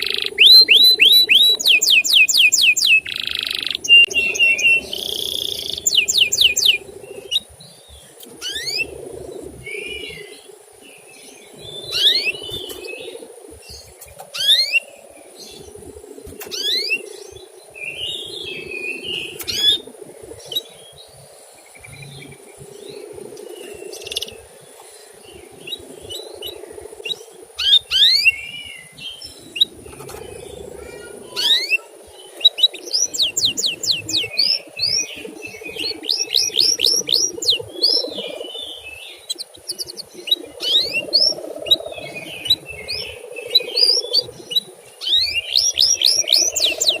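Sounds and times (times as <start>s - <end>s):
canary singing: 0.0s - 15.8s, 16.4s - 22.4s, 23.0s - 47.0s
steady low hum: 2.9s - 45.6s.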